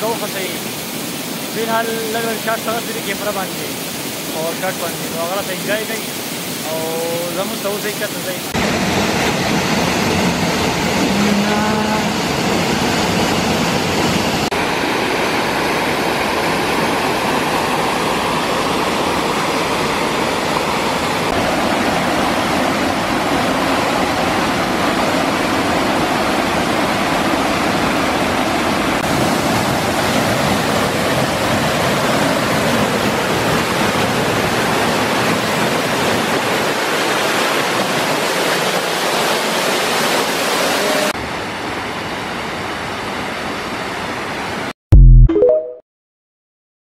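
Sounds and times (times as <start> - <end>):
waterfall rushing: 0.0 - 44.6.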